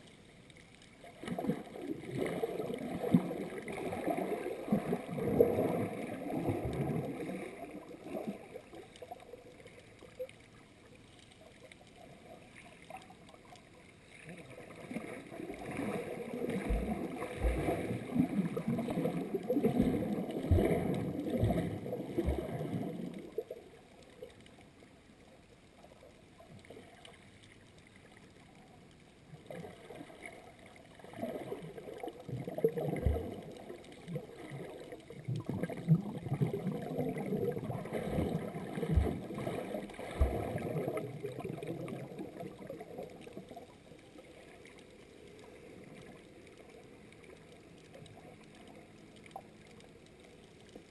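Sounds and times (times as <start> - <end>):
muffled underwater sloshing and bubbling: 0.0 - 50.9.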